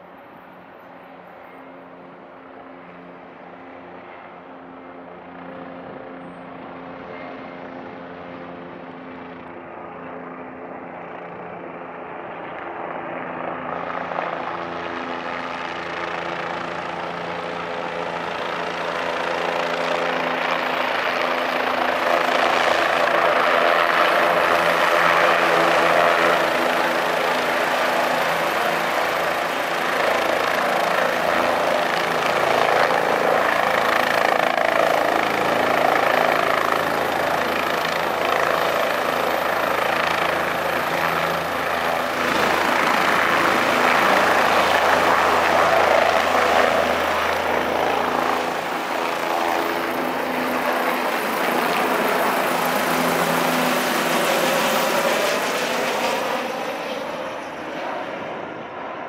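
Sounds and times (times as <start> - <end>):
helicopter rotor and turbine: 0.0 - 59.0.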